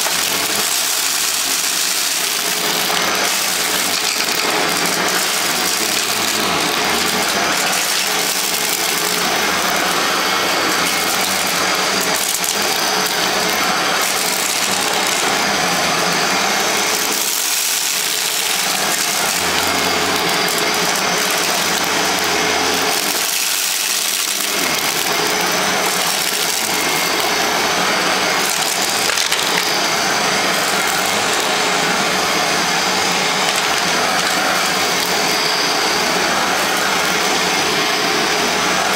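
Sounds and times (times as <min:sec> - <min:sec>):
vacuum cleaner running on carpet: 0:00.0 - 0:38.9.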